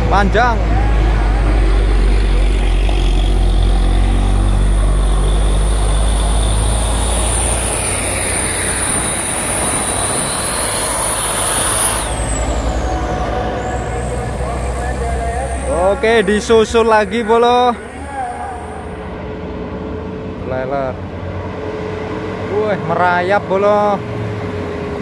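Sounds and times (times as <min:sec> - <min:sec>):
diesel truck engine drone: 0:00.0 - 0:25.0
truck passing with high whine: 0:00.0 - 0:25.0.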